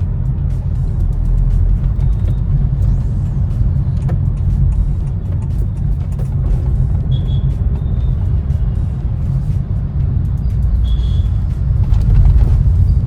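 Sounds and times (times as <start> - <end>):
road and engine rumble in car cabin: 0.0 - 13.0.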